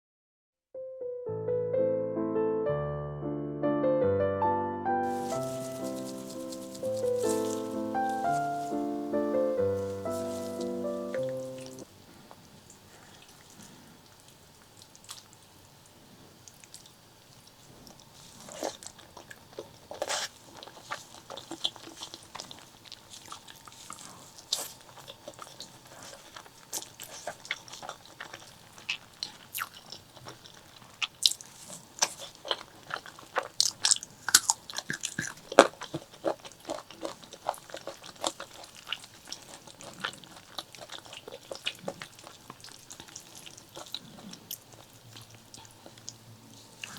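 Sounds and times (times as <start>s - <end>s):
wet chewing and crunching: 5.0s - 46.9s.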